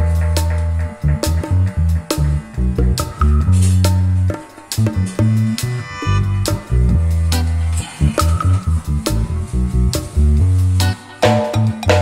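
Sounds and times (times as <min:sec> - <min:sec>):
background music with bass and drums: 0:00.0 - 0:12.0.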